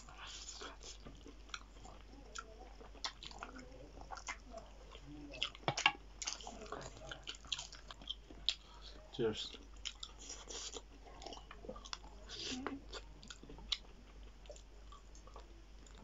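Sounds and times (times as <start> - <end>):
people chewing and crunching food: 0.0 - 16.0.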